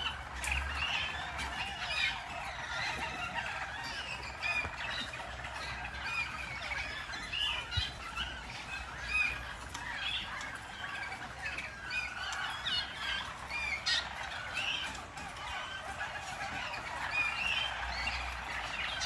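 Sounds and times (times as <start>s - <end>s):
canaries singing: 0.0s - 19.0s.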